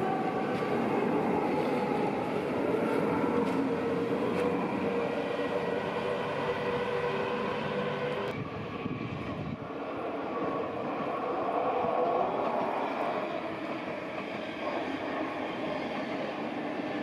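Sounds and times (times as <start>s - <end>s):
distant train rumble: 0.0s - 17.0s
electric train whine: 0.0s - 17.0s
train wheels rumbling: 0.0s - 17.0s.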